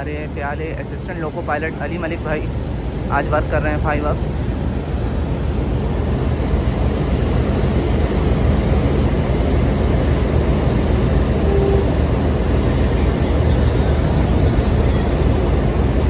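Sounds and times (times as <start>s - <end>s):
locomotive engine idling: 0.0s - 16.0s.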